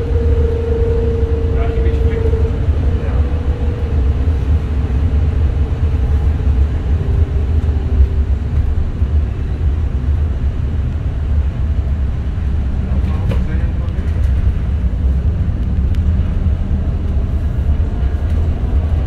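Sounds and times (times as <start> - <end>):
bus rumbling on road: 0.0 - 19.0.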